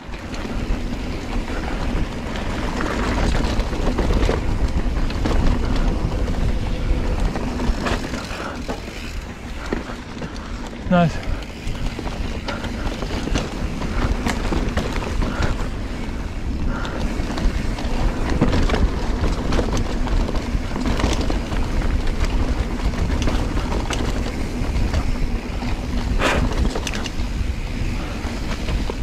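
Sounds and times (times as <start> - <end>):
bike clicking and rattling: 0.0 - 29.0
tyres rumbling on dirt: 0.0 - 29.0
wind on microphone: 0.0 - 29.0.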